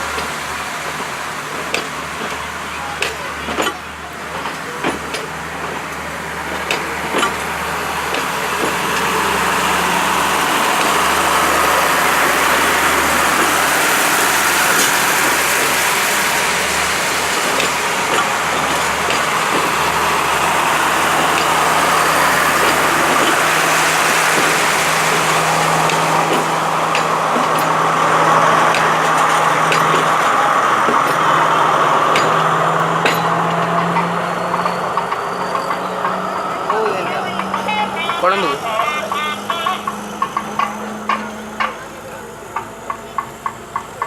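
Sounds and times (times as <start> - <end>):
heavy vehicle engine running: 0.0 - 44.0.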